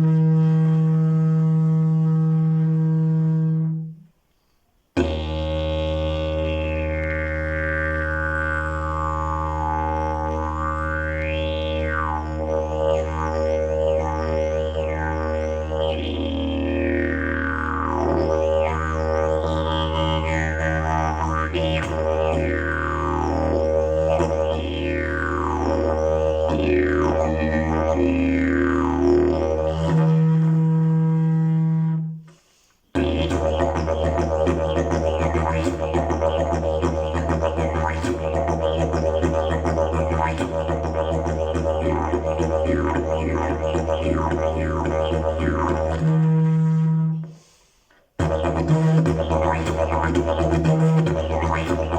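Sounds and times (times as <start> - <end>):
didgeridoo drone: 5.0 - 32.1, 33.0 - 47.3, 48.2 - 51.9.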